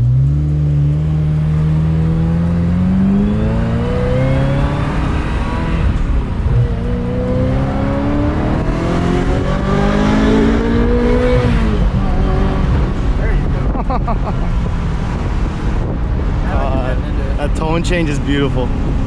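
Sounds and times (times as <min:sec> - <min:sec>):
sports car engine accelerating hard: 0:00.0 - 0:19.0.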